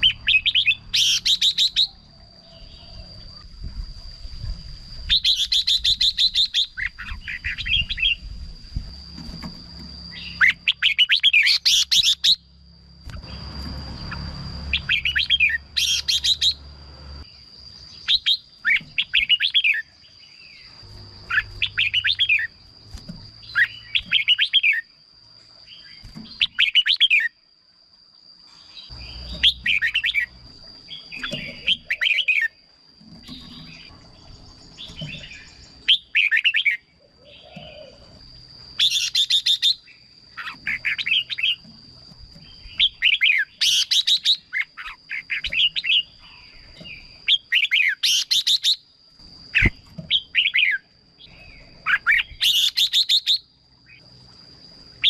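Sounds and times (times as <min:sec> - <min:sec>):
thin steady high whine: 0:00.0 - 0:55.0.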